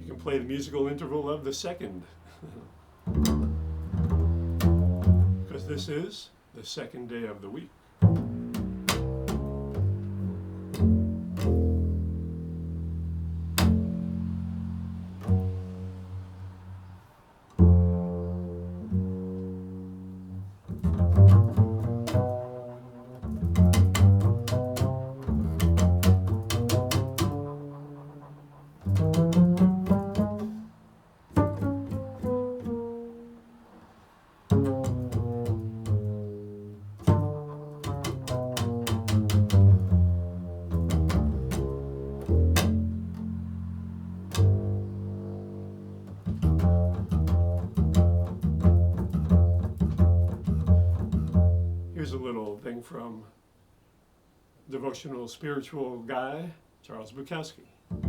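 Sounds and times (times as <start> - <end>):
low solo instrumental music: 0.0 - 53.2.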